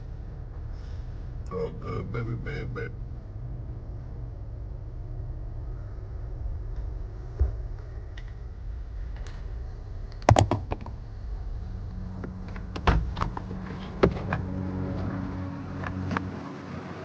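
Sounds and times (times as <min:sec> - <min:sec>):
low steady rumble: 0:00.0 - 0:17.0
steady hum: 0:00.0 - 0:17.0.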